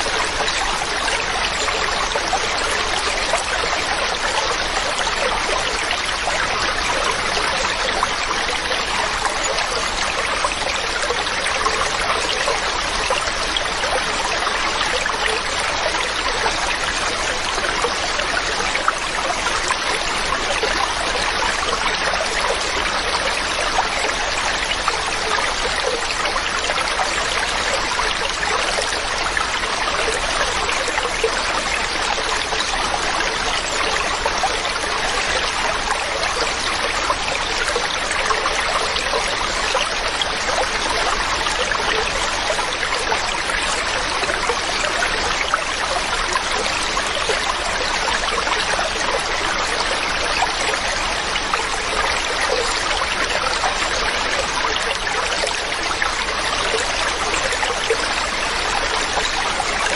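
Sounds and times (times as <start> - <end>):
stream running over rocks: 0.0 - 59.9.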